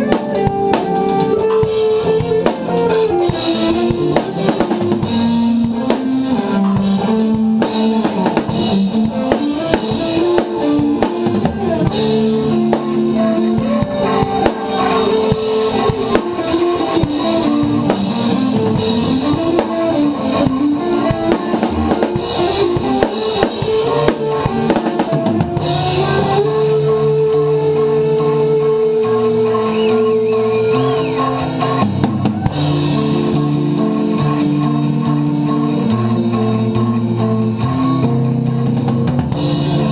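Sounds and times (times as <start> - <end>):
drum kit playing: 0.0 - 39.9
metal music with guitar and bass: 0.0 - 39.9.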